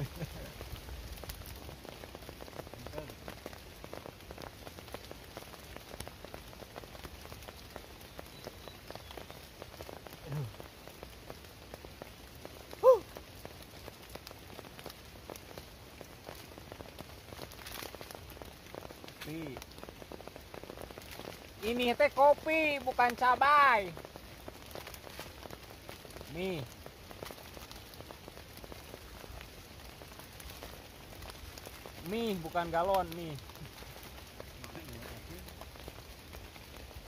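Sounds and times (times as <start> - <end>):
steady rain on tarp: 0.0 - 37.0.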